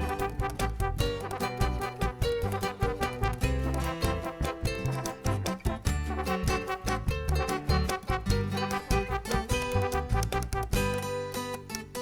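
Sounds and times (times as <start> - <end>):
upbeat music with plucked strings: 0.0 - 12.0.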